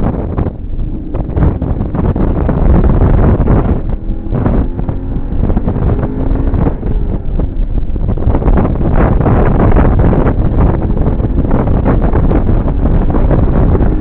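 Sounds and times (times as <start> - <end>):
car engine: 0.0 - 14.0
wind buffeting microphone: 0.0 - 14.0.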